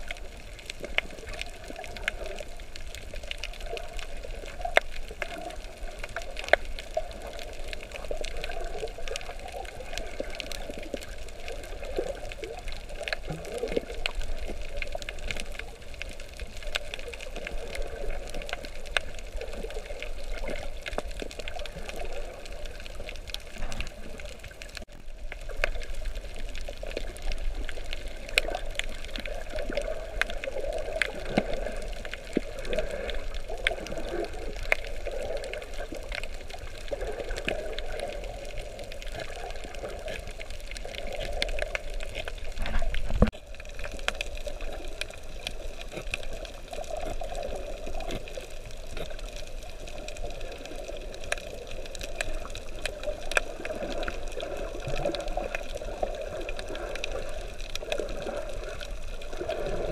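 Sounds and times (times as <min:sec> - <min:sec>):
underwater moving water wash: 0:00.0 - 0:59.9.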